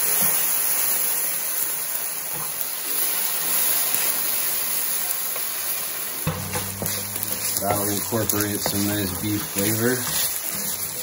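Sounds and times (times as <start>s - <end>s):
meat sizzling in a skillet: 0.0s - 11.0s.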